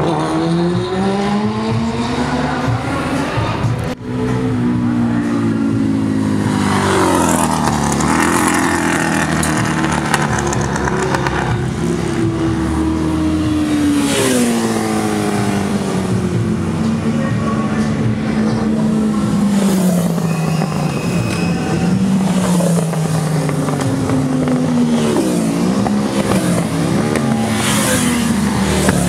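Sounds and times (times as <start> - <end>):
racing motorcycle engines: 0.0 - 29.0.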